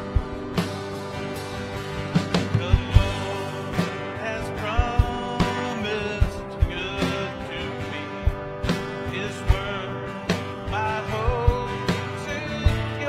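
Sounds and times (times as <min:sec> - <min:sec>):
worship band playing a hymn: 0:00.0 - 0:13.0.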